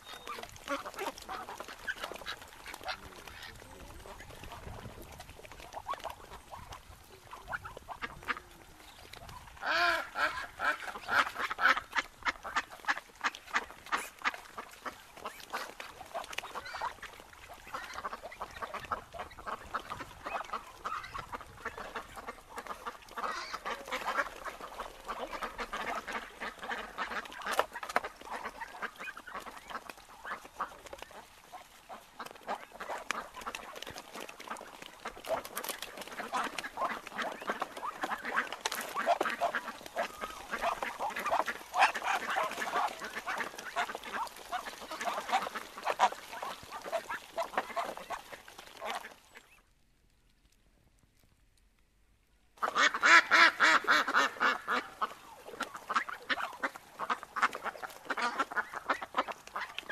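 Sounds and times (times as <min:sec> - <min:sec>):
ducks quacking: 0:00.0 - 0:49.6, 0:52.6 - 0:59.9.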